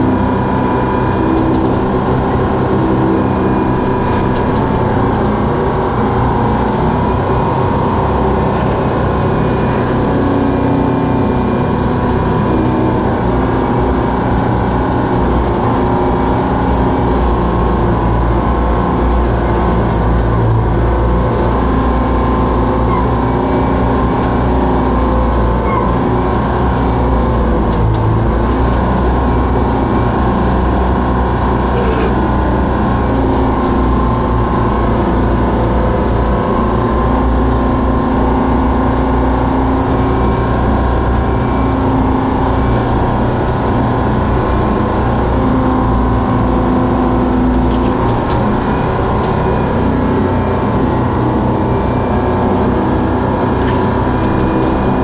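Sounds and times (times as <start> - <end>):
dragline engine and machinery running: 0.0 - 55.0.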